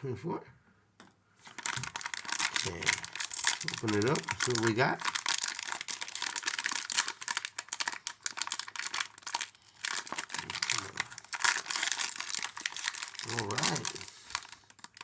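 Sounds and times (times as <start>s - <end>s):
wrapper crinkling and tearing: 1.4s - 15.0s.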